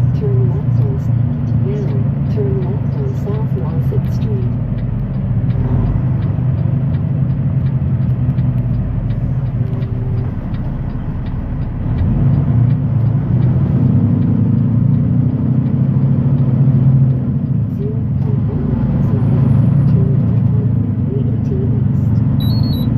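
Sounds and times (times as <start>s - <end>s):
faint ticking: 0.0s - 18.5s
diesel truck engine running: 0.0s - 22.9s.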